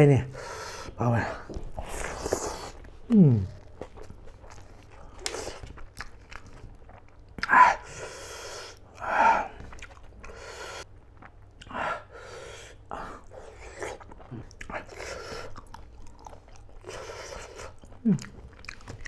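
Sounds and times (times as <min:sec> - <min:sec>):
chewing with wet mouth noises: 0:01.2 - 0:19.0.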